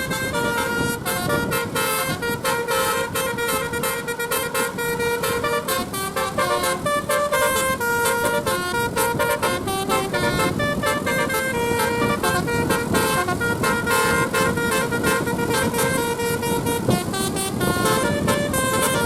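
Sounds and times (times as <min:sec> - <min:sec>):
engine rumble: 0:00.0 - 0:19.0
musical bus horn melody: 0:00.0 - 0:19.0
street noise: 0:00.0 - 0:19.0.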